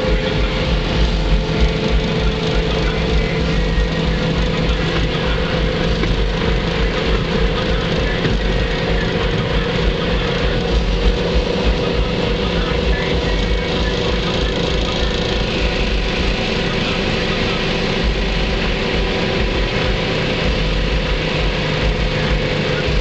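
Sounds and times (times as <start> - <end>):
car engine at high speed: 0.0 - 23.0
wind and road noise: 0.0 - 23.0.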